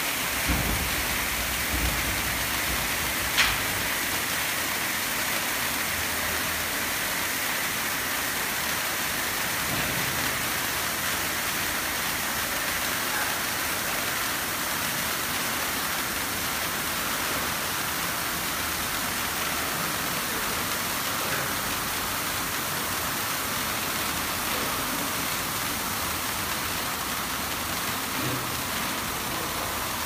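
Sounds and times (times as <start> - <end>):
pyrotechnic fountains hissing: 0.0 - 30.0.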